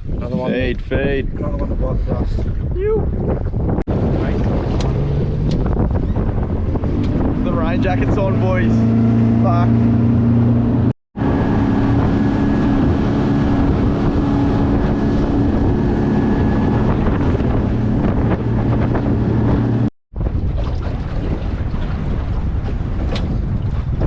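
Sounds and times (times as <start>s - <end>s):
water noise: 0.0s - 24.0s
wind buffeting microphone: 0.0s - 24.0s
boat motor running: 2.5s - 24.0s.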